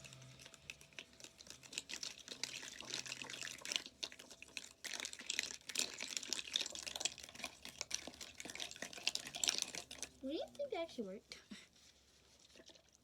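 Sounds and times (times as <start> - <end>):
slime squishing: 0.0 - 10.9.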